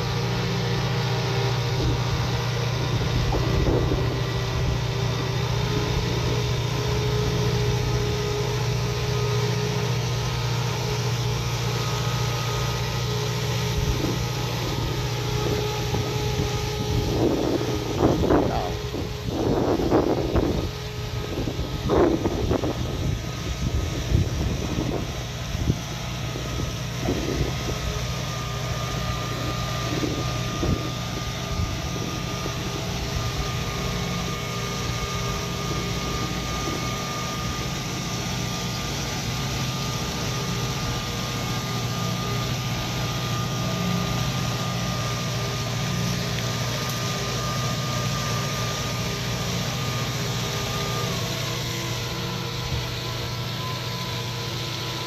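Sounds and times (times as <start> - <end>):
high whine: 0.0 - 55.0
tractor diesel engine: 0.0 - 55.0.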